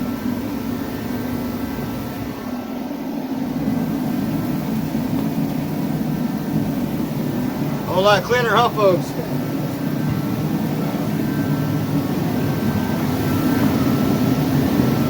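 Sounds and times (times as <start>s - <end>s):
faint whine: 0.0s - 15.0s
low machine drone: 0.0s - 15.0s.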